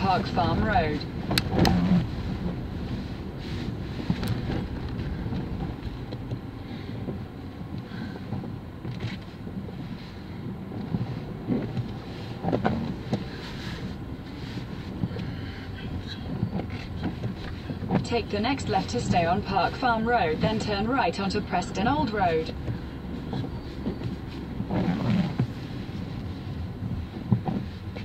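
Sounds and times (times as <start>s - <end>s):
car road noise on wet road: 0.0s - 28.0s.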